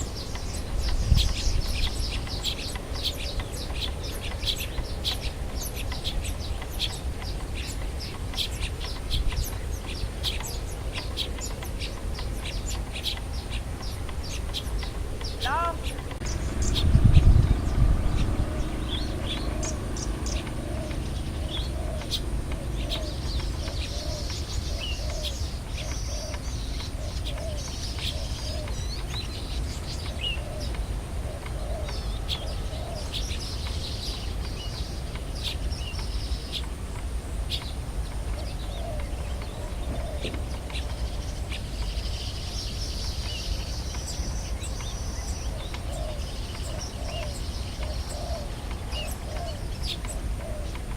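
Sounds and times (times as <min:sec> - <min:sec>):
birds chirping and trilling: 0:00.0 - 0:50.9
low repeated bird calls: 0:00.0 - 0:50.9
steady low rumble: 0:00.0 - 0:50.9.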